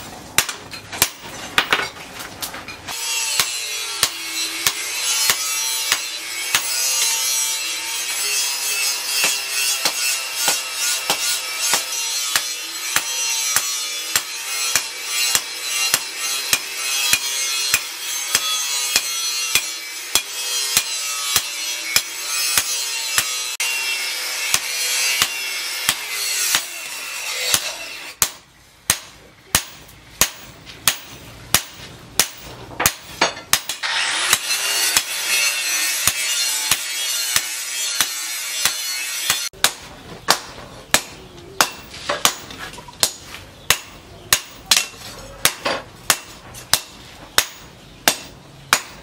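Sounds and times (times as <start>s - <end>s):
hammer striking steel on anvil: 0.4s - 1.8s, 2.9s - 49.0s.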